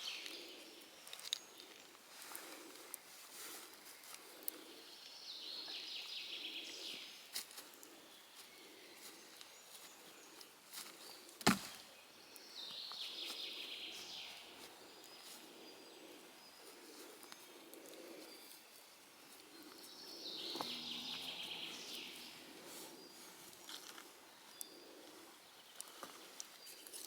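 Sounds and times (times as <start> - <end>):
songbird singing: 0.0 - 27.0.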